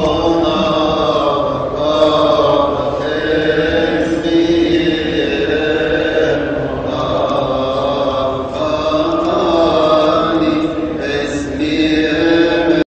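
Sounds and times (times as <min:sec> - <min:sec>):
voices chanting long notes: 0:00.0 - 0:12.8.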